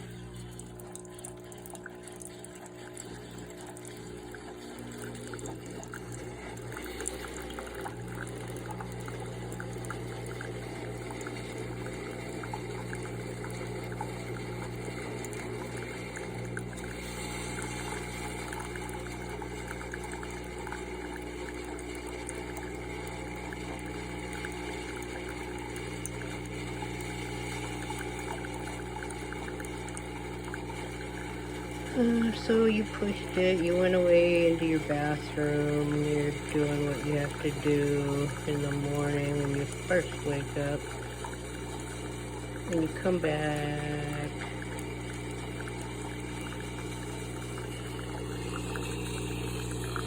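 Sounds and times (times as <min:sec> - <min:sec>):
coffee maker pump humming: 0:00.0 - 0:50.0
coffee trickling into mug: 0:00.0 - 0:50.0.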